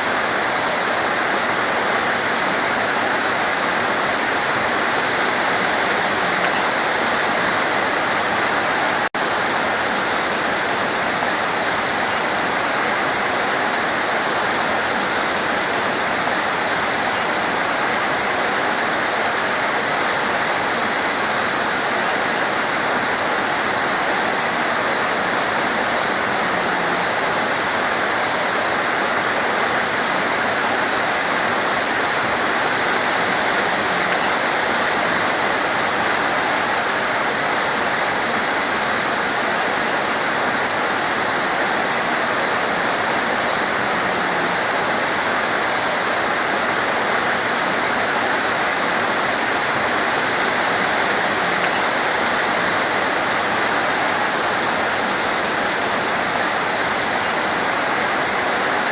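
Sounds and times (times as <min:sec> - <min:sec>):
heavy torrential rain: 0:00.0 - 0:58.9.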